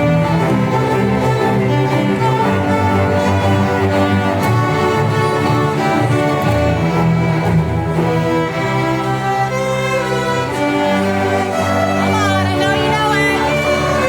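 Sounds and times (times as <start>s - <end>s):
string orchestra slow chords: 0.0s - 14.0s.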